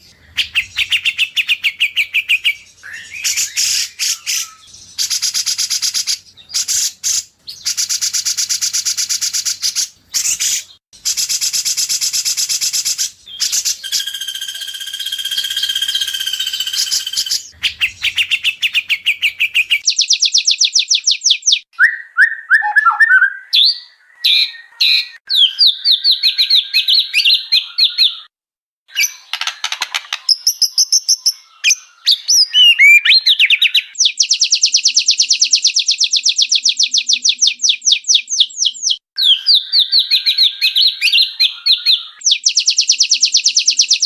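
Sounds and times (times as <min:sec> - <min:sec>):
bird song with rapid repeated notes: 0:00.0 - 0:28.3, 0:28.9 - 0:44.0
held steady bird whistle: 0:00.0 - 0:28.3, 0:30.3 - 0:44.0.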